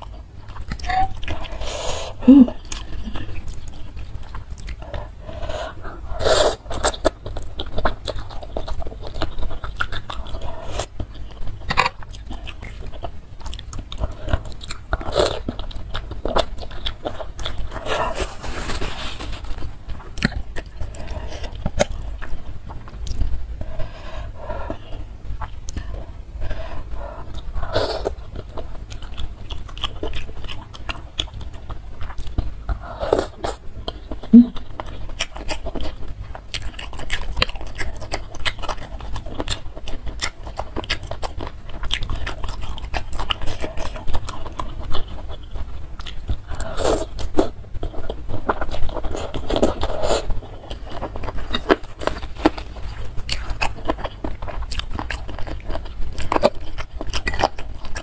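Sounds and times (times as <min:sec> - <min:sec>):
wet chewing clicks and smacks: 0:02.6 - 0:05.2, 0:06.6 - 0:18.1, 0:19.8 - 0:23.7, 0:27.0 - 0:32.8, 0:33.4 - 0:58.0.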